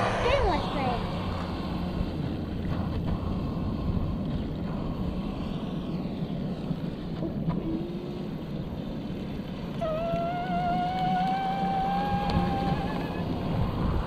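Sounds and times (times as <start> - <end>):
low rushing water noise: 0.0 - 14.0
electric boat motor whine: 1.2 - 14.0.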